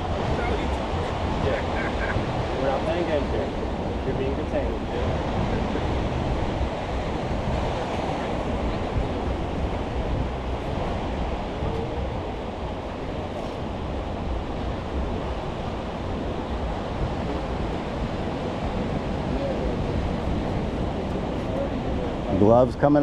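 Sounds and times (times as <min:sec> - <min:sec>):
ocean surf rushing: 0:00.0 - 0:23.0
wind buffeting microphone: 0:00.0 - 0:23.0.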